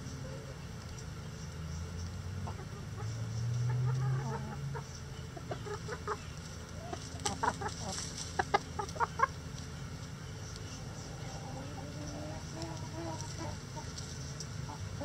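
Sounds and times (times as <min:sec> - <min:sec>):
hens clucking: 0:00.3 - 0:15.0.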